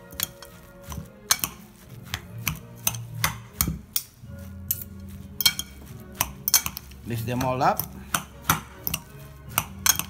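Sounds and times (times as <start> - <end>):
cutlery clinking on ceramic bowl: 0.0 - 1.6, 2.4 - 4.1, 4.7 - 10.0.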